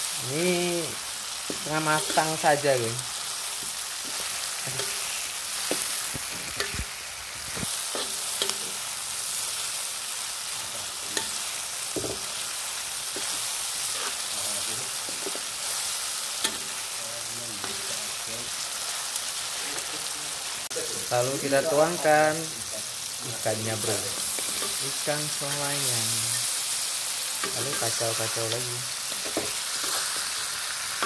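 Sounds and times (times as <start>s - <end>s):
food sizzling in oil: 0.0s - 31.0s
spatula scraping wok: 0.6s - 9.7s, 10.5s - 17.0s, 17.6s - 19.9s, 23.3s - 31.0s.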